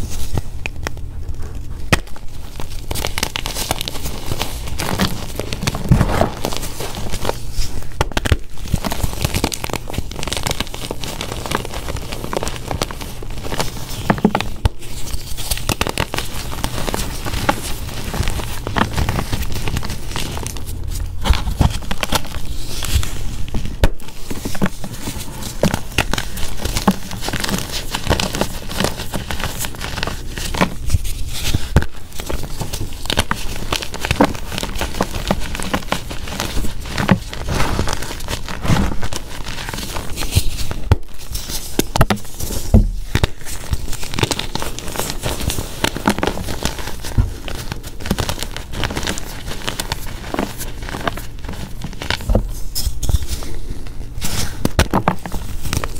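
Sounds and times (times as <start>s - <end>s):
chalk blocks crunching and crumbling: 1.9s - 55.9s.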